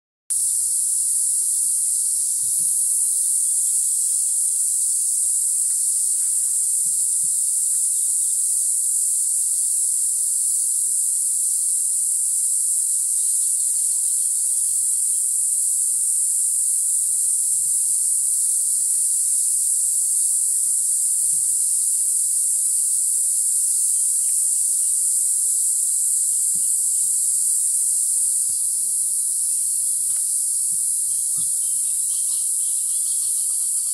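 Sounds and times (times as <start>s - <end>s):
insect chorus drone: 0.3s - 33.9s.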